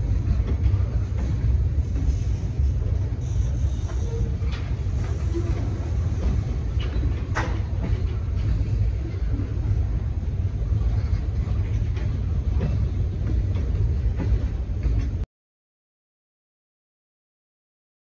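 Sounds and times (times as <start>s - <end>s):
train wheels rumbling on rails: 0.0s - 15.2s.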